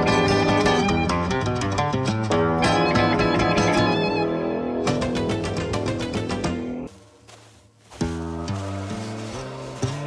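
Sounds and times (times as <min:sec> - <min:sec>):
guitar instrumental music: 0:00.0 - 0:06.9, 0:07.9 - 0:10.0.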